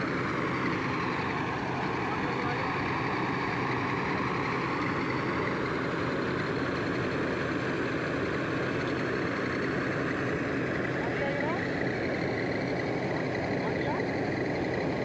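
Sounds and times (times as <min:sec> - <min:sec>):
combine harvester running: 0:00.0 - 0:15.0.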